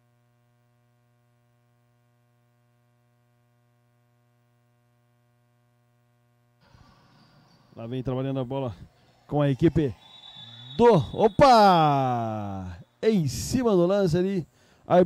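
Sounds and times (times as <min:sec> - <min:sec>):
faint electrical hum: 0:00.0 - 0:10.0, 0:10.9 - 0:15.0.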